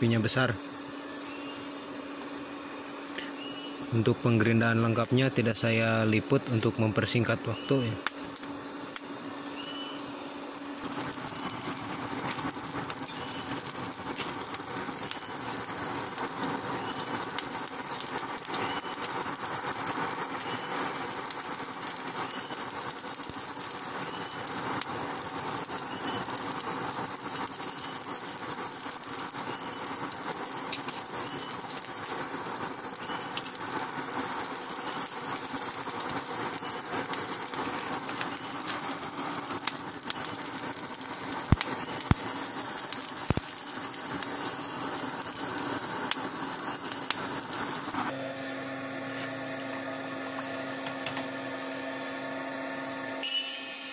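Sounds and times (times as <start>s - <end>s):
burning coals crackling: 0.0s - 53.9s.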